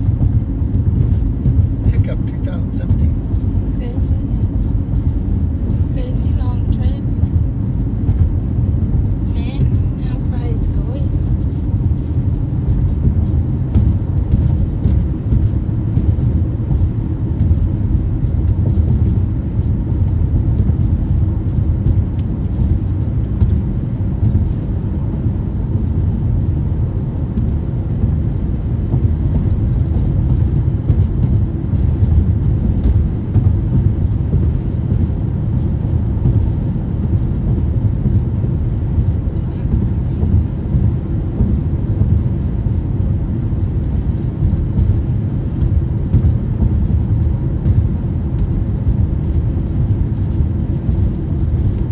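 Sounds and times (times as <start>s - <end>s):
moving vehicle rumble: 0.0s - 51.9s.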